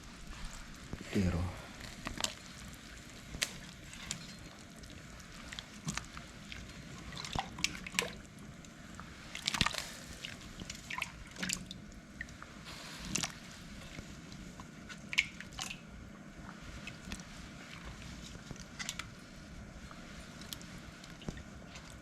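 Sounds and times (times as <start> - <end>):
liquid dripping and splashing: 1.7 - 12.4, 13.0 - 15.9, 16.5 - 19.2, 19.9 - 22.0.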